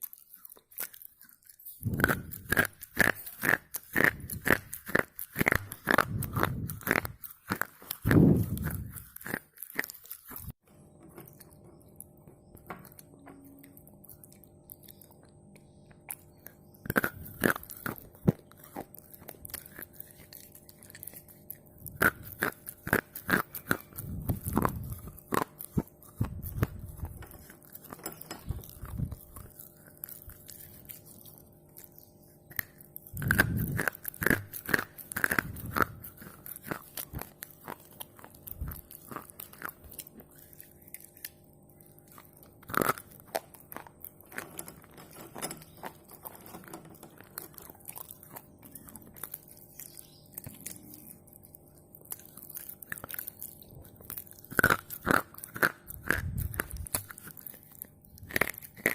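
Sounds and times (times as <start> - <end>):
crunchy biting and chewing: 0.0 - 58.9.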